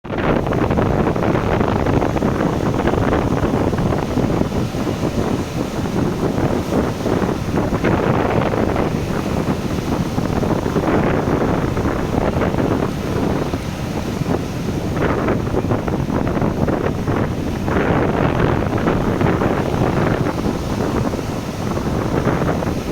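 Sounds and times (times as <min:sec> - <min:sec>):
wind buffeting microphone: 0:00.0 - 0:22.9
waves washing: 0:00.1 - 0:22.9.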